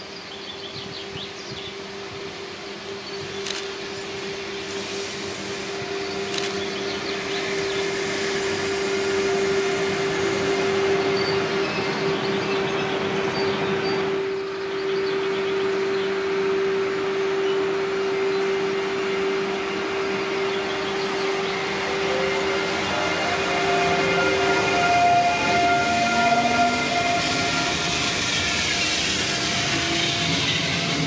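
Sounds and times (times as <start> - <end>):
train rolling past: 0.0 - 31.0.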